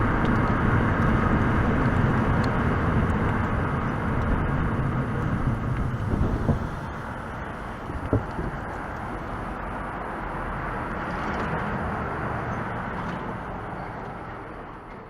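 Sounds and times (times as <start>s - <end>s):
car road and drivetrain noise: 0.0s - 15.0s.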